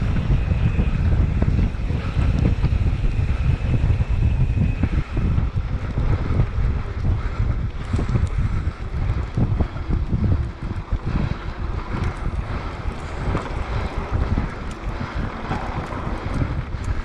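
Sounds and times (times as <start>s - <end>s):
bike tyres rumbling on rough trail: 0.0s - 17.0s
faint ticks and rattles: 0.0s - 17.0s
wind buffeting microphone: 0.0s - 17.0s.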